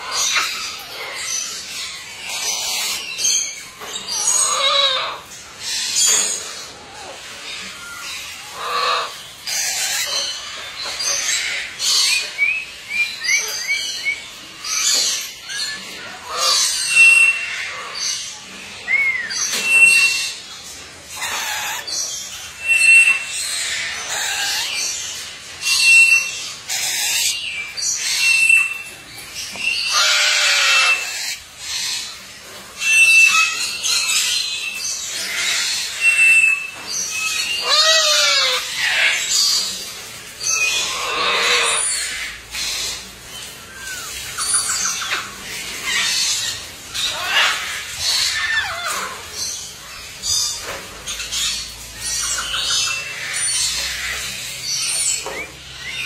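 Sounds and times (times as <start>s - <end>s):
cockatoo screeching: 0.0s - 18.2s, 21.1s - 25.0s, 29.6s - 32.2s, 32.8s - 39.8s, 40.4s - 56.0s.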